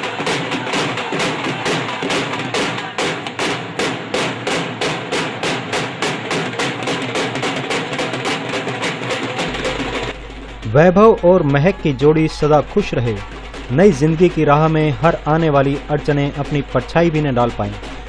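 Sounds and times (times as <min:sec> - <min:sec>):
music: 0:00.0 - 0:18.0
dhol drums playing fast beat: 0:00.1 - 0:18.0.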